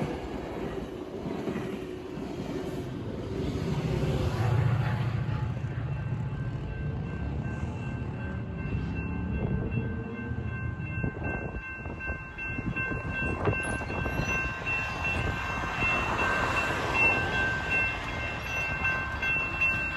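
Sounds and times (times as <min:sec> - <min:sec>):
train rumbling past on rails: 0:00.0 - 0:19.9.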